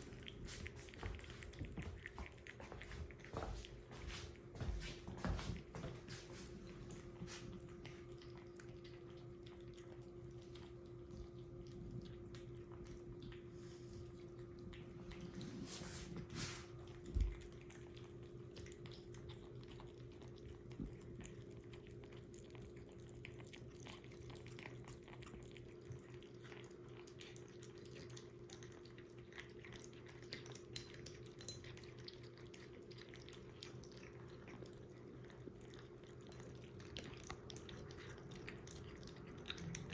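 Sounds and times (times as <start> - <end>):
kitten chewing: 0.0 - 39.9
low electrical hum: 0.0 - 39.9.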